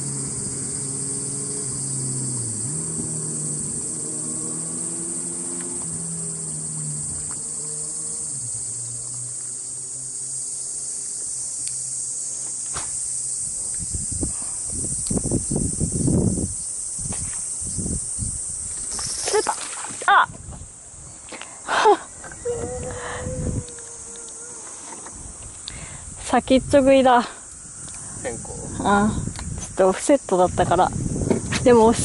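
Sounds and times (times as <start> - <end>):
low engine hum: 0.0 - 21.3, 21.9 - 32.0
insects droning: 0.0 - 32.0.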